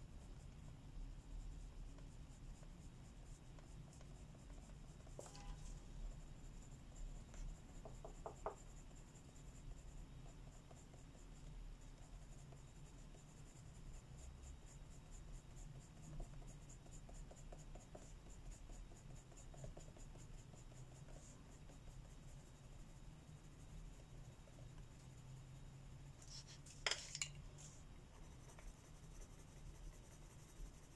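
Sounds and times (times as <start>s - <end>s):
colouring strokes scratching on paper: 0.0s - 30.9s.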